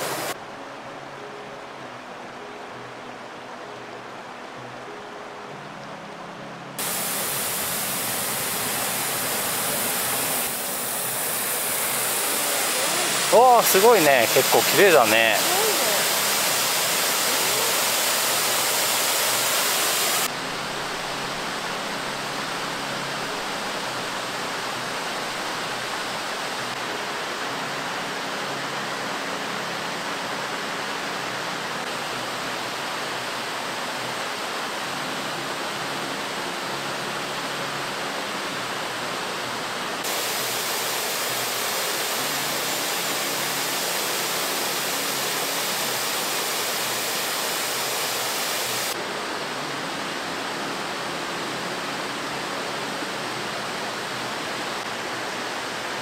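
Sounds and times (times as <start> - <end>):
waterfall rushing: 0.0 - 0.4, 6.8 - 56.0.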